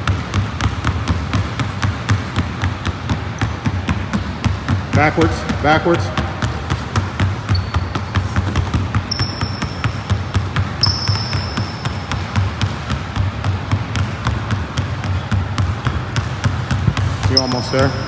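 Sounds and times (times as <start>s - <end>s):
basketballs bouncing on wooden floor: 0.0s - 18.0s.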